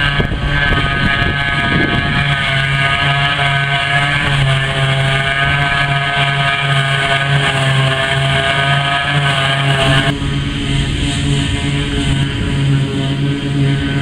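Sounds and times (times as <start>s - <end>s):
forage harvester engine hum: 0.0s - 14.0s
high whine: 0.0s - 14.0s.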